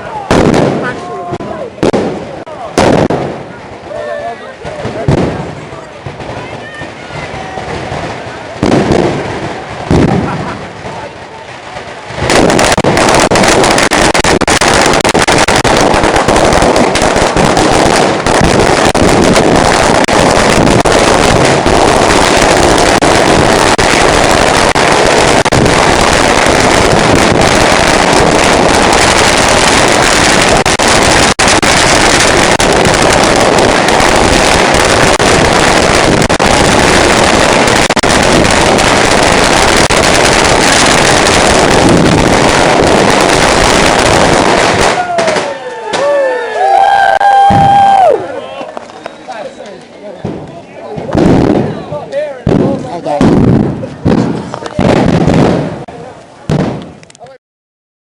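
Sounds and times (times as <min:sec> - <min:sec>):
fireworks crackling: 0:00.0 - 0:57.4.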